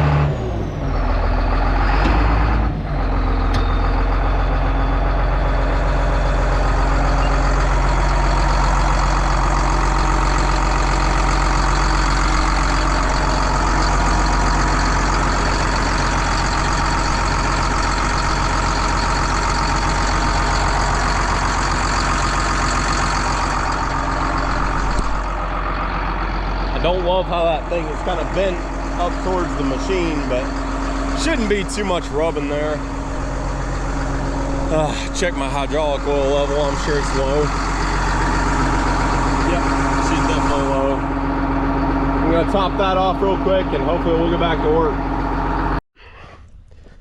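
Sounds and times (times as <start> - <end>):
bulldozer diesel engine droning: 0.0 - 47.0.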